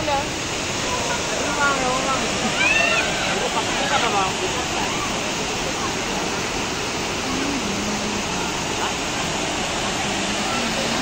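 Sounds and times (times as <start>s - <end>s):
waterfall pouring over rocks: 0.0s - 11.0s
faint voices of people: 0.8s - 11.0s.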